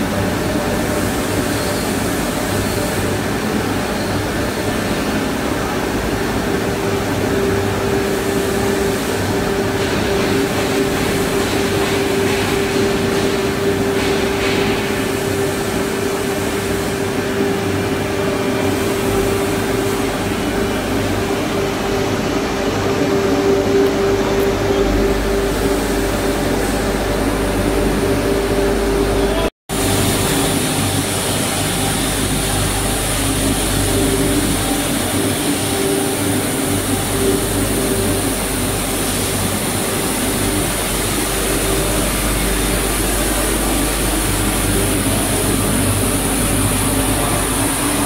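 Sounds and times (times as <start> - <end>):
machine hum and hiss: 0.0 - 48.0
machine whine: 0.0 - 48.0.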